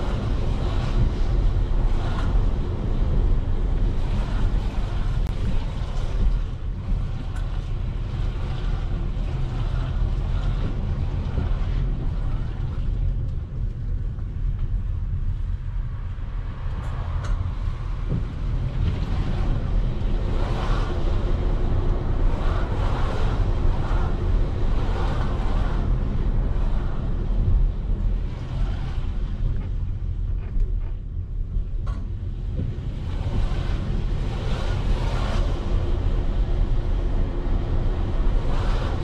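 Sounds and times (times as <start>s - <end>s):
engine and road rumble: 0.0s - 39.0s.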